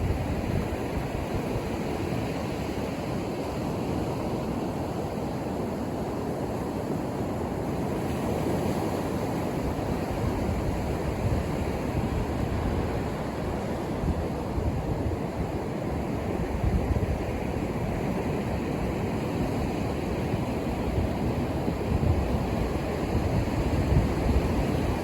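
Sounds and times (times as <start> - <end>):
ocean surf breaking on a beach: 0.0 - 25.0.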